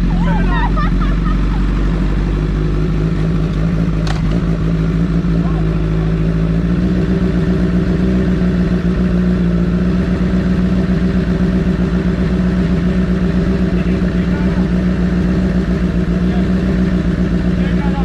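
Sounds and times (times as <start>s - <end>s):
loud motorcycle engine running steadily: 0.0s - 18.0s.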